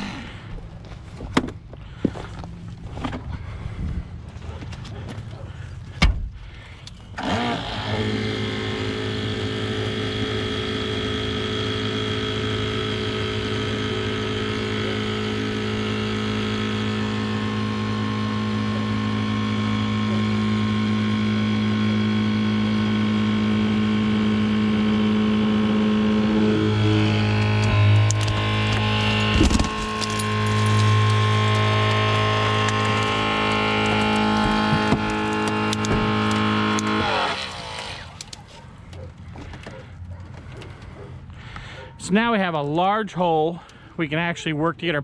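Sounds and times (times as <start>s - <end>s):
hydraulic pump humming: 0.0s - 41.9s.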